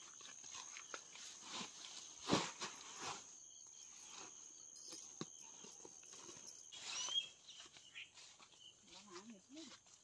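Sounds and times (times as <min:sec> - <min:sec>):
soft rustles and thumps: 0:00.0 - 0:10.0.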